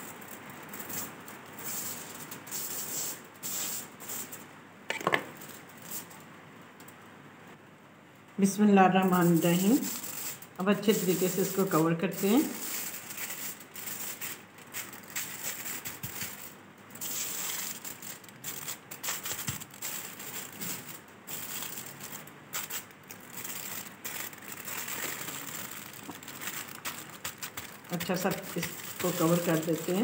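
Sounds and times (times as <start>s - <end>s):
aluminium foil crinkling: 0.0s - 4.4s, 9.0s - 30.0s.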